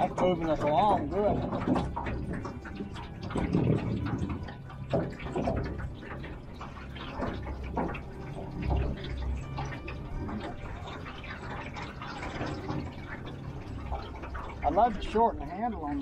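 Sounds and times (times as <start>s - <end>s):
water splashing along boat hull: 0.0s - 16.0s.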